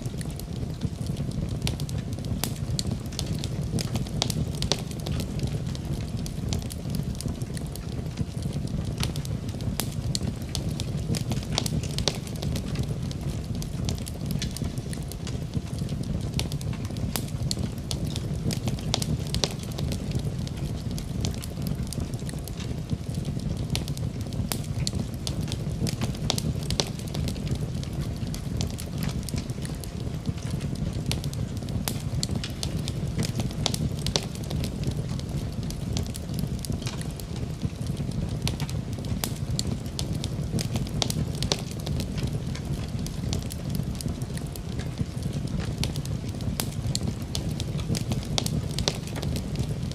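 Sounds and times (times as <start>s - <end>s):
sharp pops of fire: 0.0s - 49.9s
wood fire crackling: 0.0s - 49.9s.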